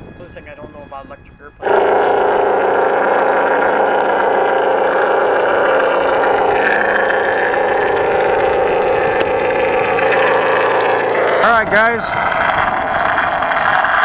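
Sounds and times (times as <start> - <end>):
simulated engine idle drone: 0.0 - 14.0.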